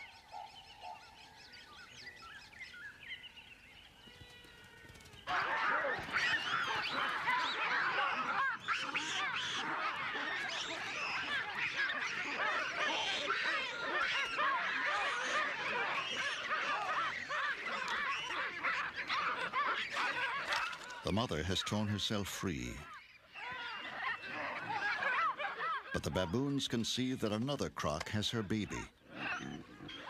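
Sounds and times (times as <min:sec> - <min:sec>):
baboons screaming and barking: 0:04.1 - 0:26.6, 0:28.1 - 0:30.0.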